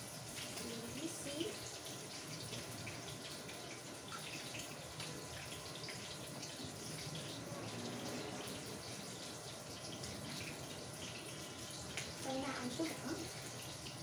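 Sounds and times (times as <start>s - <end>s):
spring rolls sizzling in hot oil: 0.0s - 14.0s.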